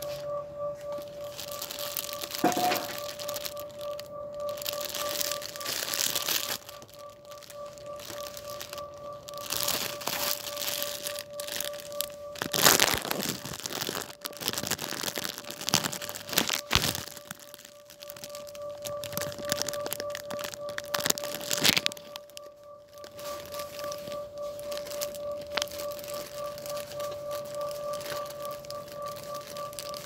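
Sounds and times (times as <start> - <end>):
shopping bag rustling: 0.8 - 30.0.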